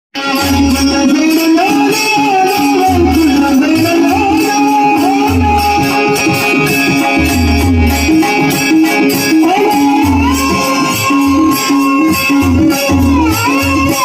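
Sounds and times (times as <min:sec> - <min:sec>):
jingling percussion: 0:00.2 - 0:14.0
person singing devotional song: 0:00.2 - 0:14.0.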